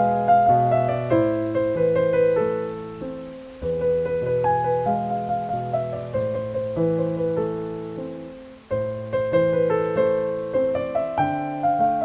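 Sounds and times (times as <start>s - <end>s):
slow piano music: 0.0s - 12.0s
steady rain: 0.0s - 12.0s.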